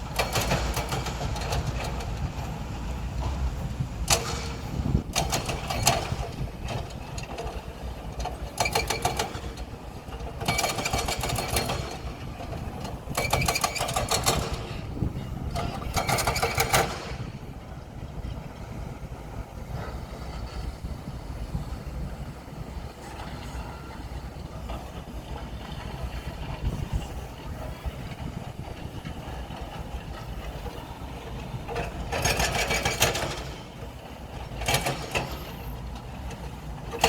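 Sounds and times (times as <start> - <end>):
heavy machine engine running: 0.0 - 37.0.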